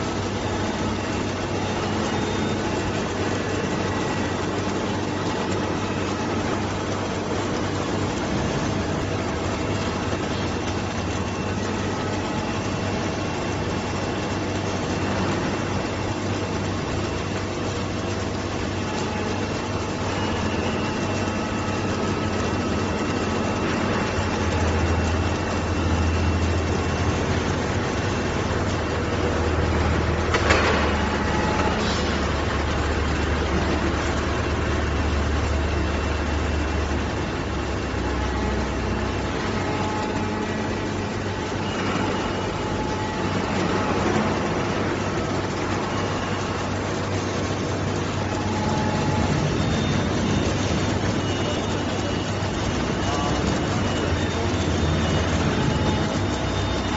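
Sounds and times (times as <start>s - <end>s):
low electrical hum: 0.0s - 56.9s
welding machine running: 0.0s - 56.9s.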